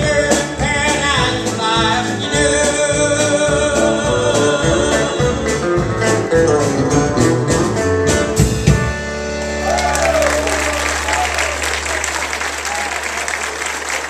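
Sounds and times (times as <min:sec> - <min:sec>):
live country band playing: 0:00.0 - 0:14.0.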